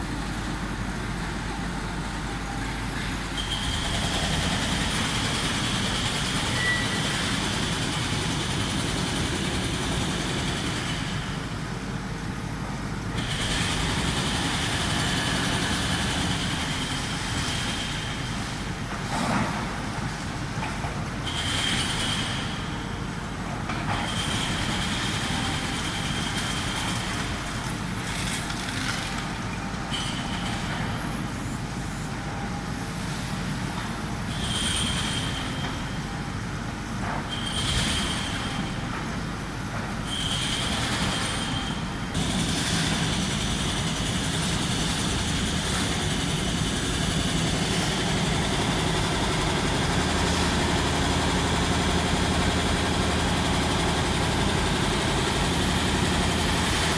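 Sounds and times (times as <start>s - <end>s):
heavy construction machinery running: 0.0s - 56.9s.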